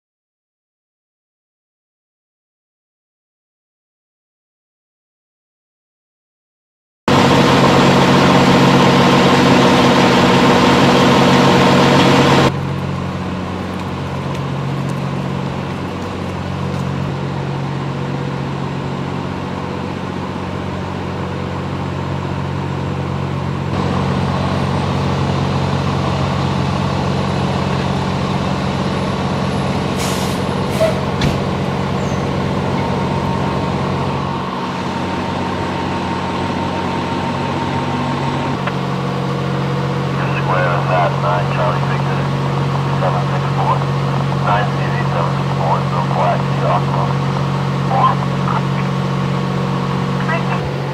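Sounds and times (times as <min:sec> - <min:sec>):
truck engines idling: 0:07.1 - 0:50.9.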